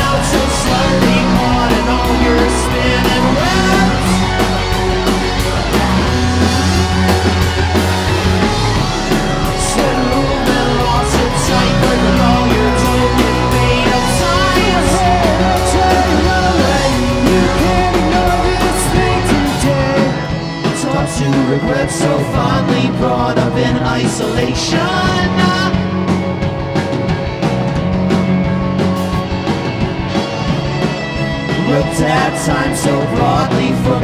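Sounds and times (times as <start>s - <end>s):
person singing: 0.0s - 25.9s, 31.5s - 34.0s
bass guitar: 0.0s - 34.0s
drums: 0.0s - 34.0s
electric guitar: 0.0s - 34.0s.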